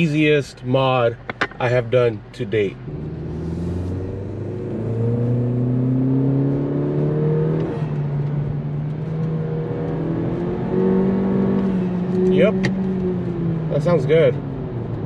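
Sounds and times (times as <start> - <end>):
car engine accelerating: 2.7 - 15.0.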